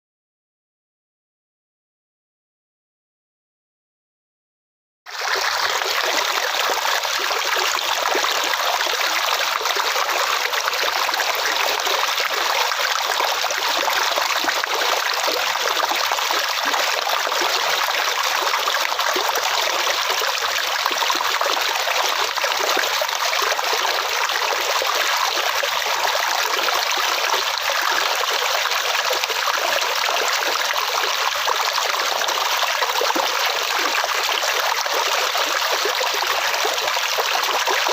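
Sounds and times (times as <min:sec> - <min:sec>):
flowing water rushing: 0:05.1 - 0:37.9.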